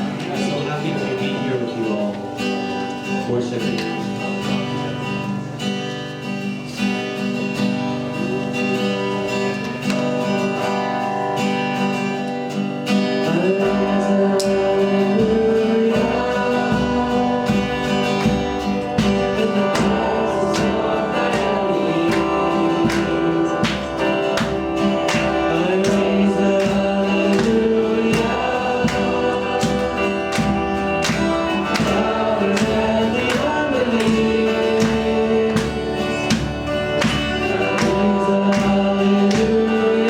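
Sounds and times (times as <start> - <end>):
worship band music: 0.0 - 40.0.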